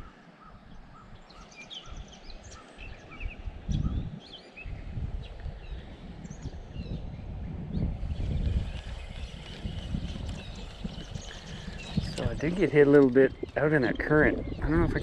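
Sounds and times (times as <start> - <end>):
songbirds chirping and trilling: 0.0 - 15.0
wind rumbling on microphone: 0.0 - 15.0.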